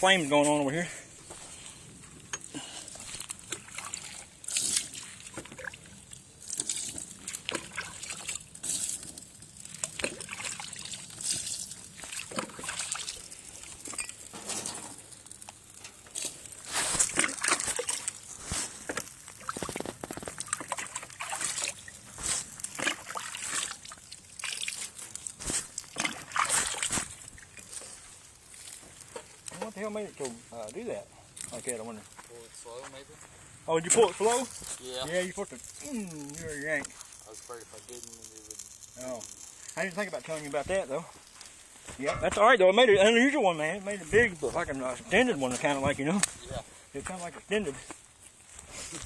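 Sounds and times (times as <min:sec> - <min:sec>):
sawdust fire crackling and popping: 0:00.0 - 0:49.0.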